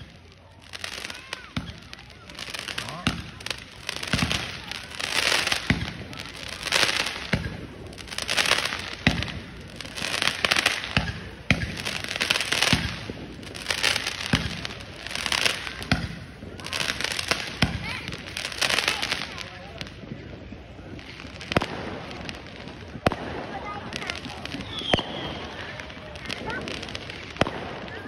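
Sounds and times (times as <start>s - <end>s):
firework booms: 0.0s - 28.0s
hissing crackle of fireworks: 0.0s - 28.0s.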